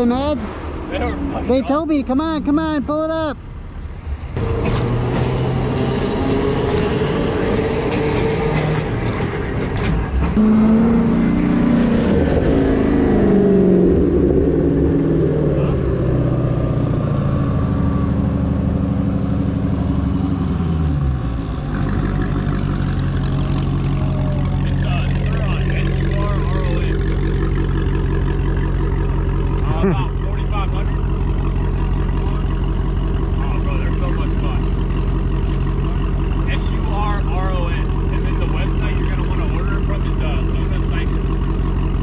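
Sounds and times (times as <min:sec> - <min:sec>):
low traffic rumble: 0:00.0 - 0:42.0
engines revving and passing: 0:04.0 - 0:42.0.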